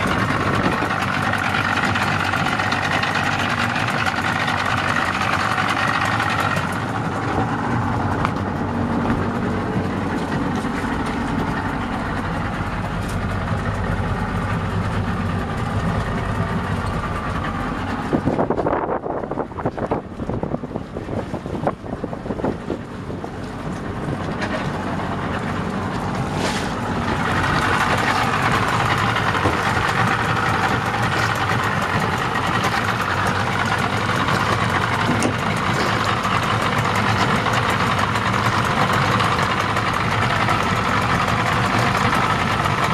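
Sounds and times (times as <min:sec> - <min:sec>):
outboard motor running: 0:00.0 - 0:42.9.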